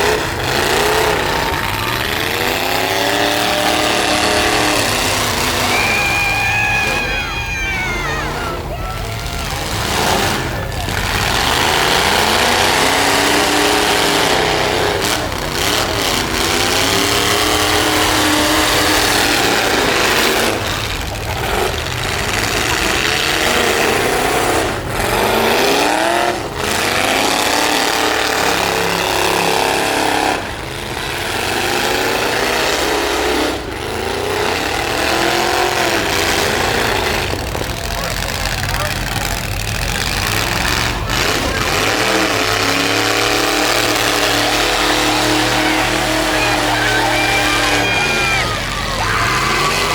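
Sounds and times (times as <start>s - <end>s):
truck engines revving hard: 0.0s - 49.9s.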